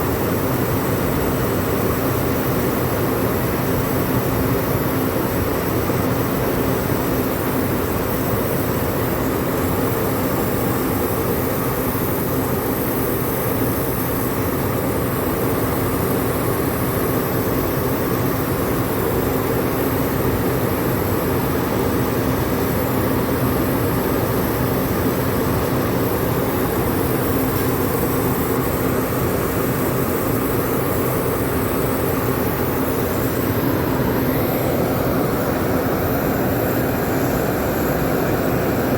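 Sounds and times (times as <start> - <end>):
air conditioning fan rushing: 0.0 - 38.9
low machinery hum: 0.0 - 38.9.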